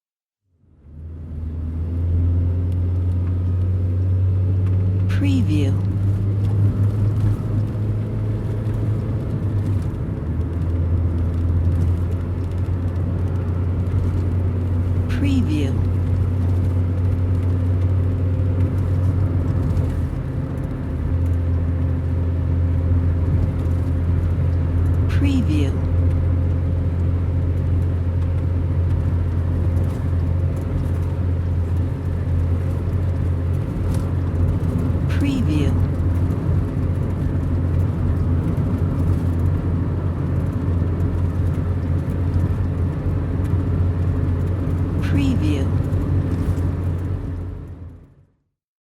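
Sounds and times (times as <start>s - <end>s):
car engine drone: 0.4s - 48.4s
road rumble: 0.4s - 48.5s.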